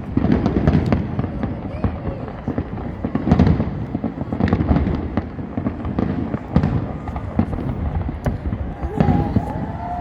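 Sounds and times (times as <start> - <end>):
fireworks bangs and crackles: 0.0 - 10.0
fireworks low rumble: 0.0 - 10.0.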